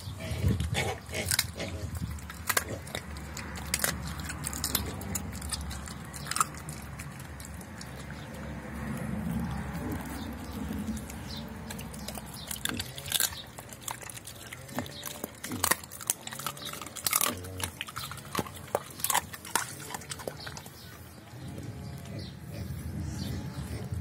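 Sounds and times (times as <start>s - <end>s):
dog chewing and crunching: 0.0s - 24.0s
teeth clicking on bowl: 0.4s - 20.9s.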